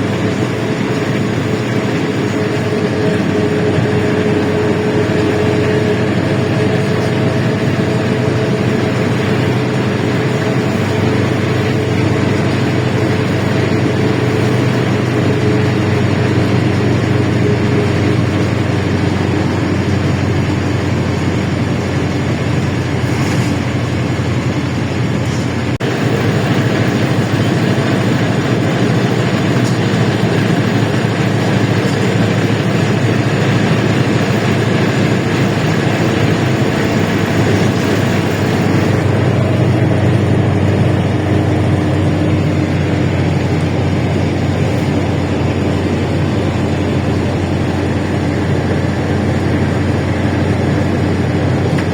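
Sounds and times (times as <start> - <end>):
bus engine running: 0.0 - 51.9
road noise: 0.0 - 51.9.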